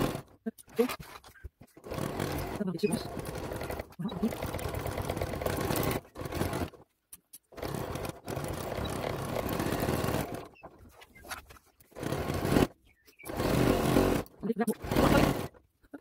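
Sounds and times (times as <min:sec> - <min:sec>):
sewing machine stitching: 0:00.0 - 0:06.8, 0:07.4 - 0:15.6.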